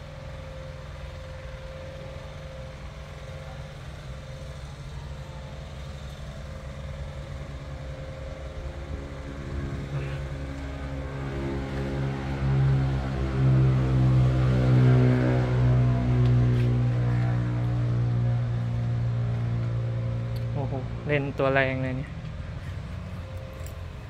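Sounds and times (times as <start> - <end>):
harvester engine idling: 0.0 - 24.0.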